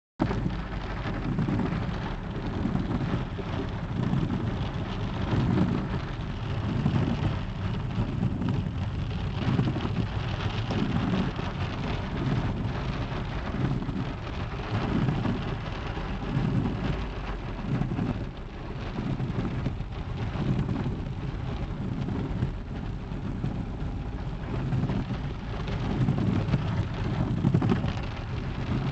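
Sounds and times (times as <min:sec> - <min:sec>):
low rumble: 0:00.2 - 0:28.9
rain falling: 0:00.2 - 0:28.9.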